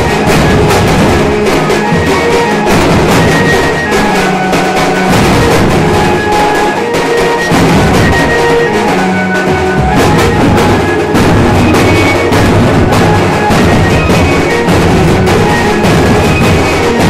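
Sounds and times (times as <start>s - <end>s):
held melody: 0.0s - 17.0s
large drums beaten fast: 0.0s - 17.0s.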